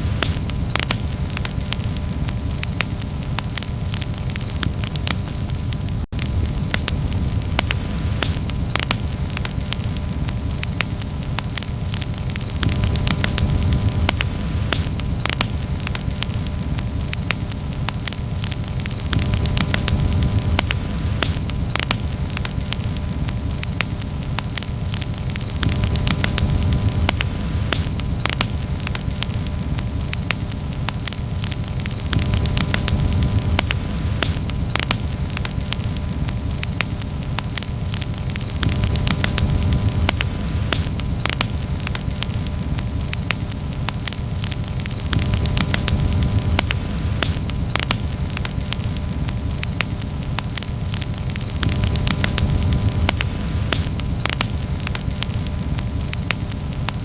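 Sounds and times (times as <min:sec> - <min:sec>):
campfire crackling and popping: 0:00.0 - 0:57.0
steady low rumble: 0:00.0 - 0:57.0.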